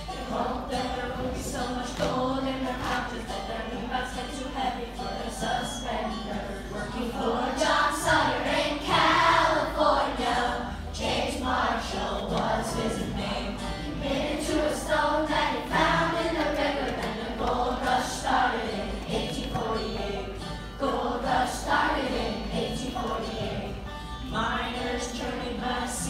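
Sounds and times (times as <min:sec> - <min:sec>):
children singing in chorus: 0:00.0 - 0:26.0
musical accompaniment: 0:00.0 - 0:26.0.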